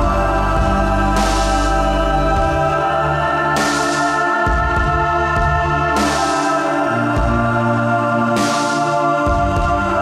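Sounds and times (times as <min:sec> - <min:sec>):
background music with held chords: 0:00.0 - 0:10.0.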